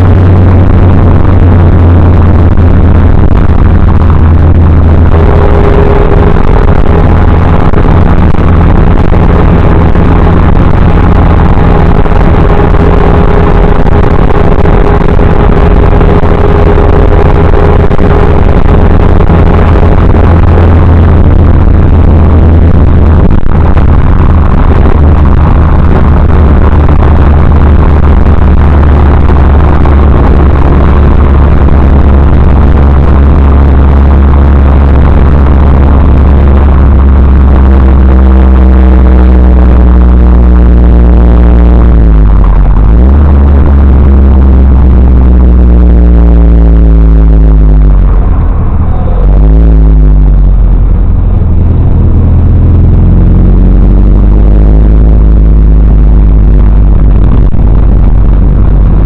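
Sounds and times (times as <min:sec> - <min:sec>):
distorted car engine drone: 0:00.0 - 0:59.0
thin steady whine: 0:00.0 - 0:59.0.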